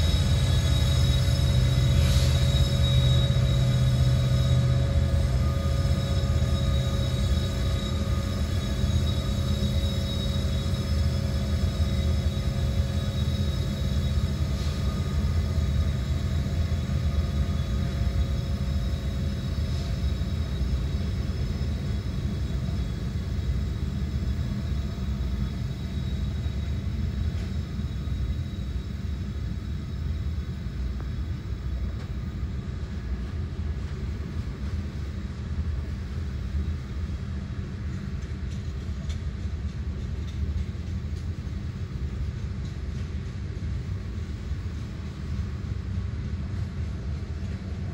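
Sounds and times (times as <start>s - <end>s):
freight train wheels rumbling: 0.0s - 47.9s.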